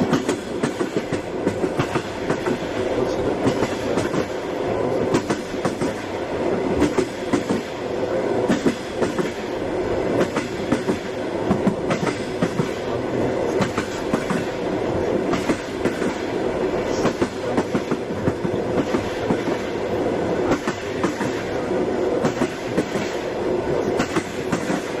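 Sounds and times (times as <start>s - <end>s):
train clacks and knocks: 0.0s - 25.0s
train rumbling: 0.0s - 25.0s.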